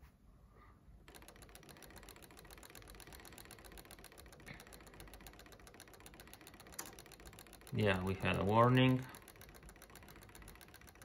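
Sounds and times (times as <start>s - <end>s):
clock mechanism ticking rapidly: 1.1s - 11.0s.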